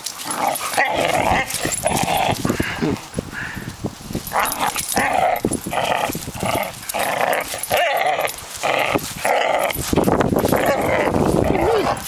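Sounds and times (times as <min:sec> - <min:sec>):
puppies growling in play: 0:00.2 - 0:03.0, 0:04.3 - 0:12.0.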